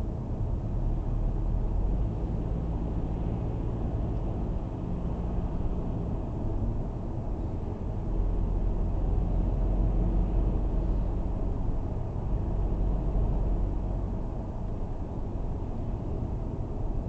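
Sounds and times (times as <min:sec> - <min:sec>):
faint engine hum: 0:00.0 - 0:17.0.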